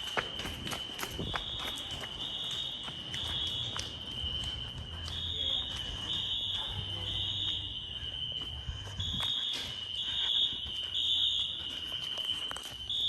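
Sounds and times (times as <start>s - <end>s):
fire alarm horn blasts: 0.0s - 13.0s.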